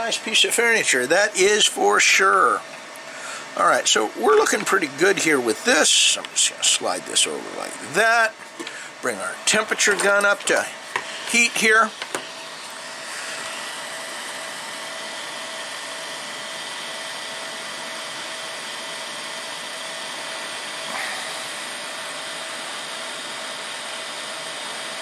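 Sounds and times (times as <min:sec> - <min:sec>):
heat gun fan blowing: 0:00.0 - 0:25.0.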